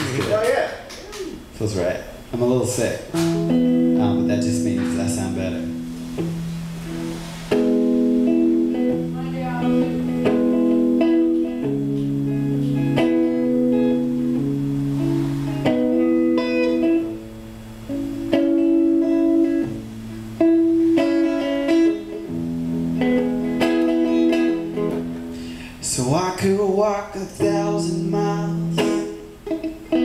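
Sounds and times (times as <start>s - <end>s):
electric guitar chords: 3.1s - 30.0s.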